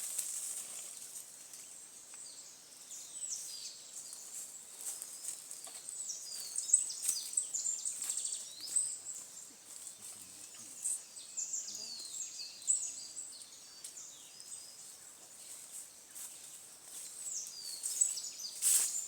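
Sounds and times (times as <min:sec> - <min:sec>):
forest birds chirping: 0:00.0 - 0:19.0.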